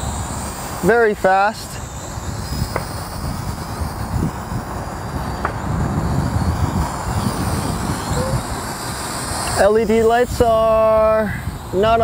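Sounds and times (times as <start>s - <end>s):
faint high whine of drone motors: 0.0s - 12.0s
wind buffeting microphone: 0.0s - 12.0s.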